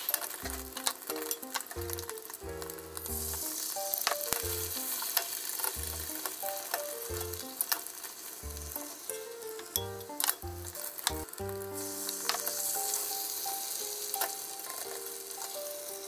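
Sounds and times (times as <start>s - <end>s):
chopsticks clicking against pan: 0.0s - 8.7s, 9.5s - 12.6s, 14.1s - 15.7s
egg sizzling in a pan: 0.0s - 16.0s.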